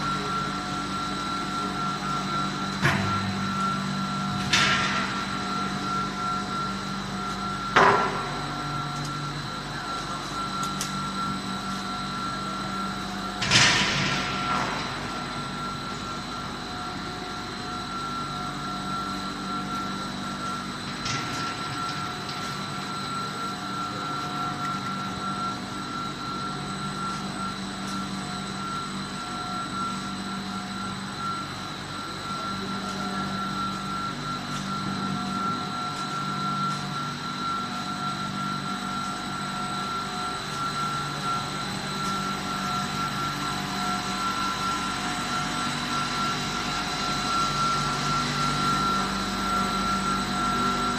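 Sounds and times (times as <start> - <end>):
motors humming with high whine: 0.0 - 50.9.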